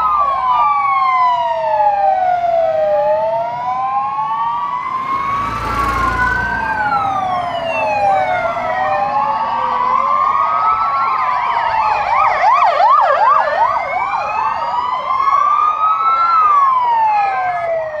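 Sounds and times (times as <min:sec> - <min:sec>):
fire engine rumble: 0:00.0 - 0:18.0
siren yelping: 0:00.0 - 0:18.0
sirens wailing: 0:00.0 - 0:18.0.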